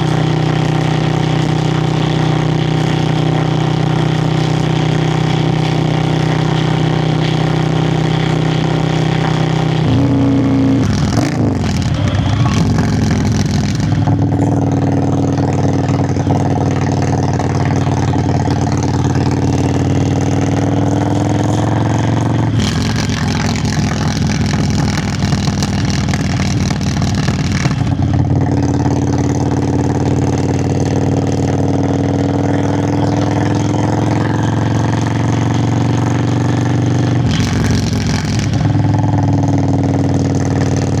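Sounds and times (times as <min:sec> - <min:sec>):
motorcycle engine exhaust: 0:00.0 - 0:41.0.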